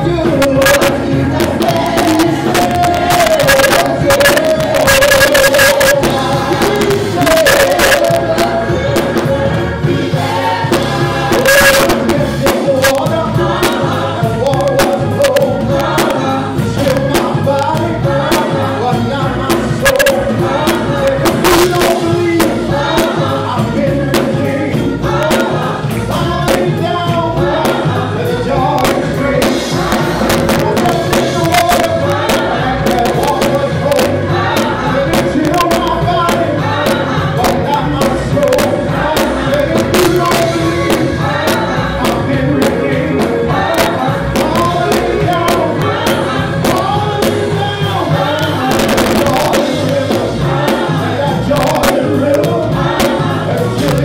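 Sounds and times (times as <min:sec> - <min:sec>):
conga drums: 0:00.0 - 0:54.0
gospel choir singing: 0:00.0 - 0:54.0.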